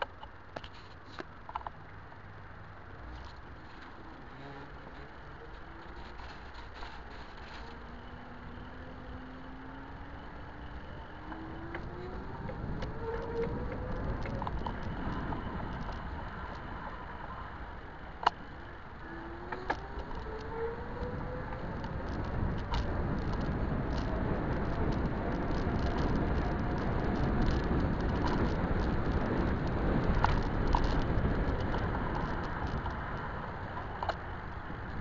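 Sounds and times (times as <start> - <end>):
wind and road noise: 0.0 - 35.0
electric bike motor whining: 3.5 - 32.7.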